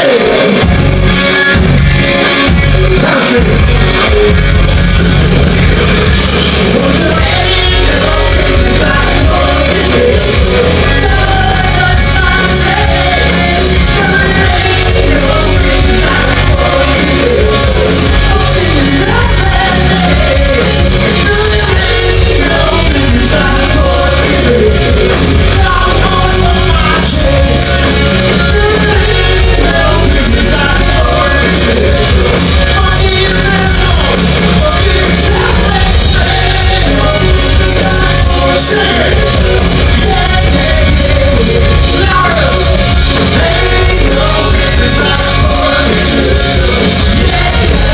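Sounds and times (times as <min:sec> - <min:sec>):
singer shouting vocals: 0:00.0 - 0:00.6, 0:02.9 - 0:04.4, 0:06.6 - 0:47.9
live rock band playing: 0:00.0 - 0:47.9.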